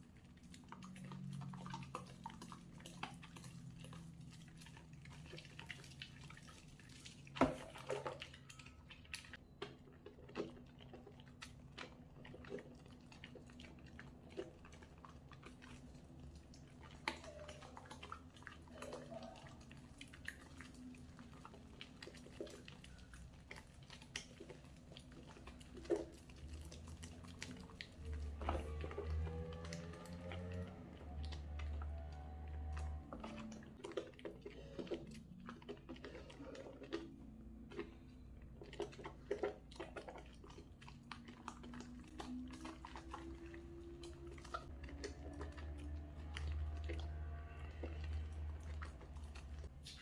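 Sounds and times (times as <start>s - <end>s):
soap lathering squishing: 0.0s - 50.0s.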